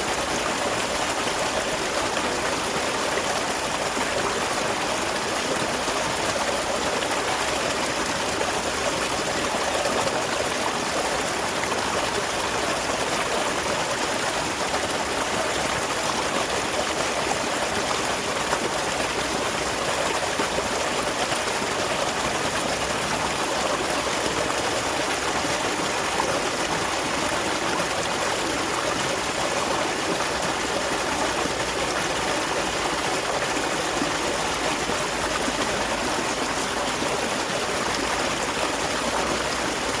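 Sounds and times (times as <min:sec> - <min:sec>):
small waterfall splashing: 0:00.0 - 0:40.0.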